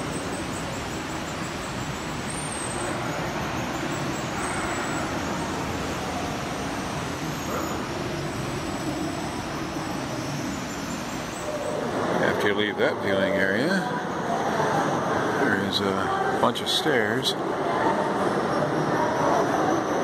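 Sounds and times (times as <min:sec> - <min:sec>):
surf roaring in sea cave: 0:00.0 - 0:16.6.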